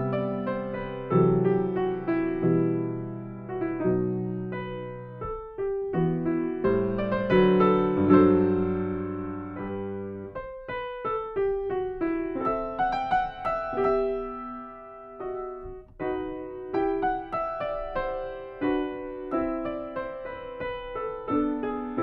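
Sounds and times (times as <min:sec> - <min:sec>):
slow gentle solo piano: 0:00.0 - 0:22.0.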